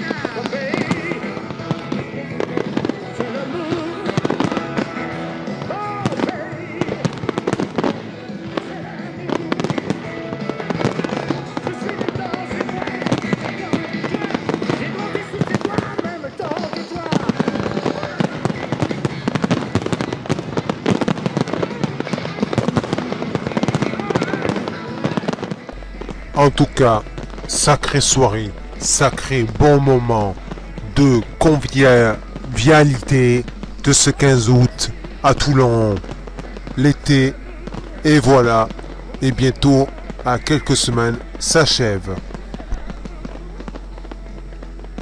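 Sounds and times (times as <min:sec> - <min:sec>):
fireworks bursting and crackling: 0:00.0 - 0:45.0
music playing: 0:00.0 - 0:45.0.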